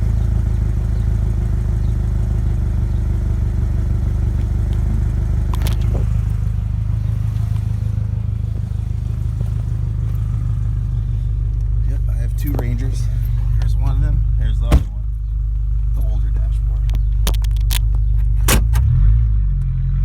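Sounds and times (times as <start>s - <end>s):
loud engine exhaust: 0.0s - 20.0s.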